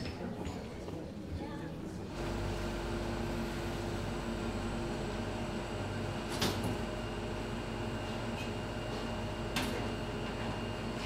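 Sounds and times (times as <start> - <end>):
room hum: 1.3 - 11.0.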